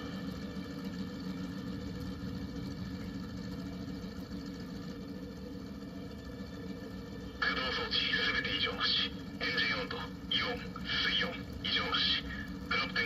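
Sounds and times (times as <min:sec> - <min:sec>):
recorded aircraft engine idling: 0:00.0 - 0:13.0.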